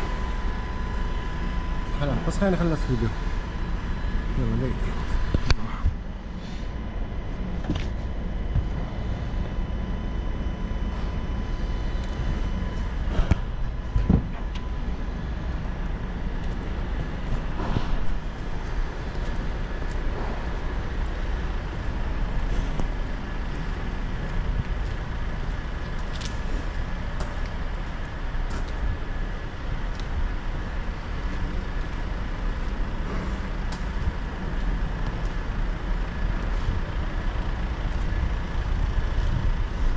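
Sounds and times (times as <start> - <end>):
faint steady whine: 0.0 - 39.9
low mechanical drone: 0.0 - 39.9.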